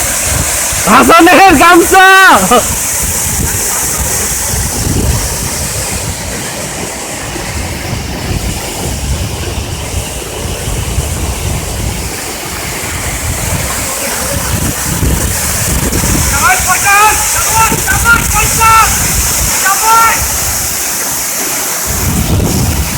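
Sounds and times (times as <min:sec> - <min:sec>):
waterfall pouring: 0:00.0 - 0:22.9.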